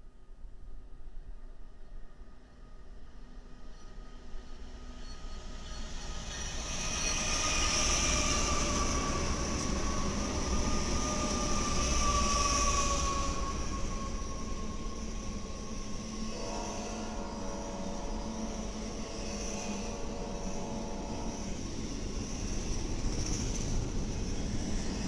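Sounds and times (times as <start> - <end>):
freight train rumbling past: 2.0 - 25.0.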